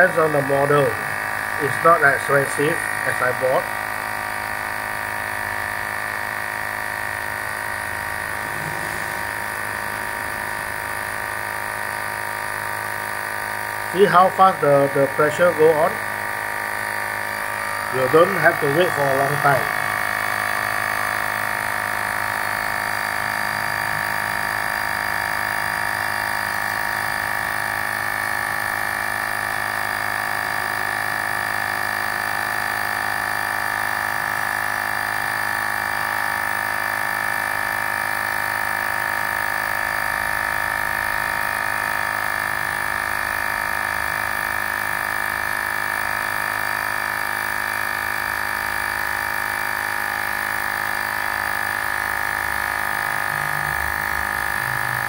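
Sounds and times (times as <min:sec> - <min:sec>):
small electric air compressor running: 0:00.0 - 0:55.0.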